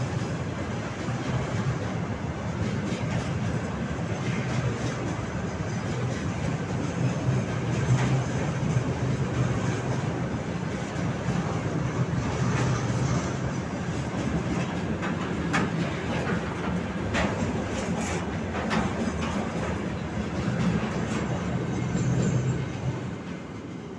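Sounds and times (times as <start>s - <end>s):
steel wheels rumbling on rails: 0.0s - 23.9s.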